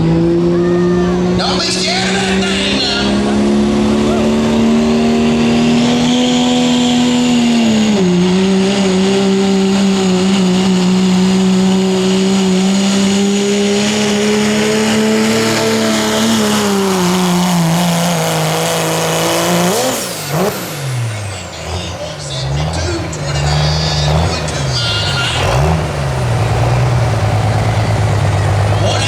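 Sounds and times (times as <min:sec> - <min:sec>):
diesel pickup engine at high revs: 0:00.0 - 0:29.0.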